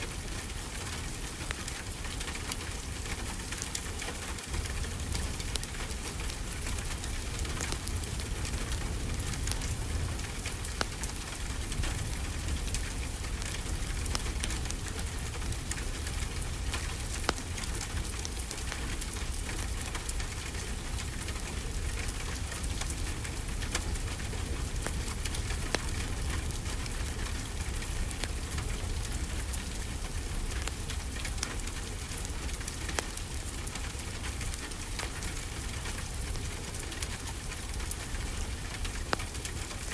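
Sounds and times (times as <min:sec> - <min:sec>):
steady rain: 0:00.0 - 0:39.9
wood fire crackling and popping: 0:00.0 - 0:39.9.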